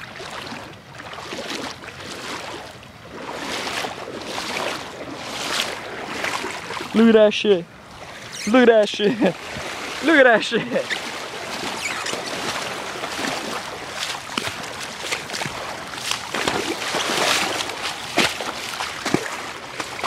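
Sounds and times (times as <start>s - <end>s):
wading through water: 0.0s - 20.0s.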